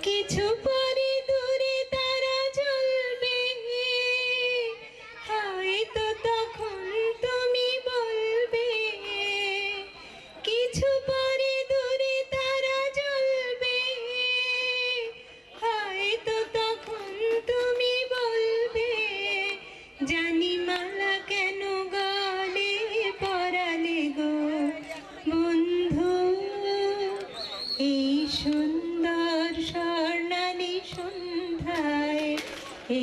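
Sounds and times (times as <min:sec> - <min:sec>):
woman singing into microphone: 0:00.0 - 0:33.0.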